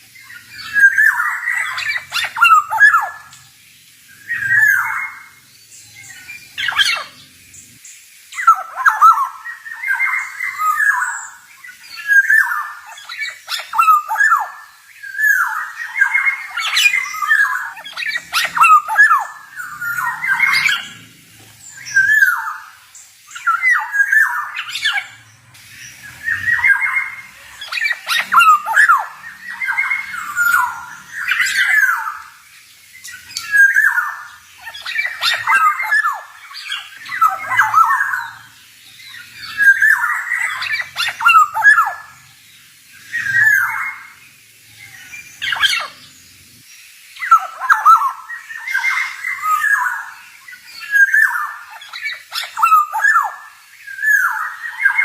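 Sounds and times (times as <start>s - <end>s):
bird singing gliding notes: 0.0s - 46.3s.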